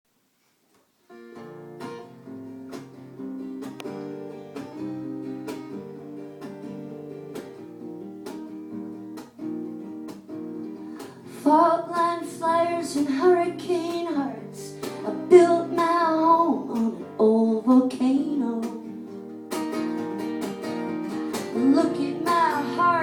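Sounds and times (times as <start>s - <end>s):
acoustic guitar strumming chords: 1.1s - 23.0s.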